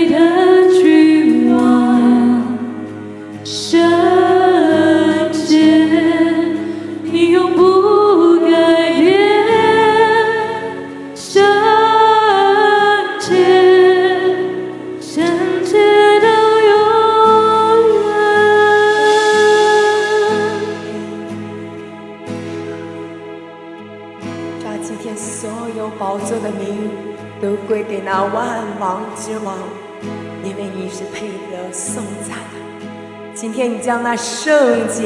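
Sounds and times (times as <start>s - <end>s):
sustained accompaniment: 0.0s - 35.0s.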